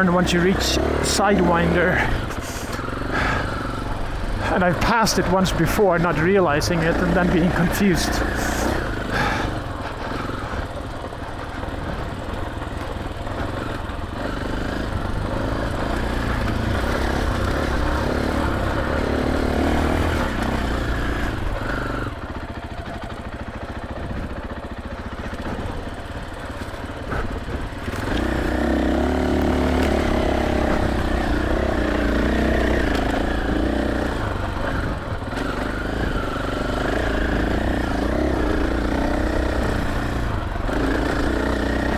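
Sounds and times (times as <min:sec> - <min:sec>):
dirt bike engine revving: 0:00.0 - 0:22.4, 0:25.4 - 0:41.9.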